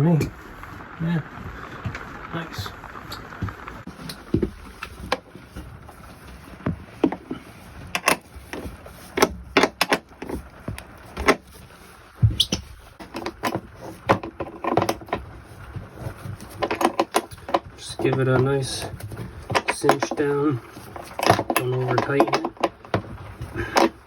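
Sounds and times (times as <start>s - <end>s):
clicks and clunks of hand work: 3.1s - 24.0s.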